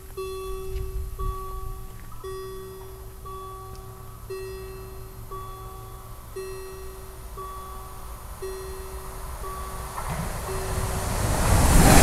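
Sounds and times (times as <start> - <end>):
level crossing bell ringing: 0.0 - 12.0
low steady rumble: 0.0 - 12.0.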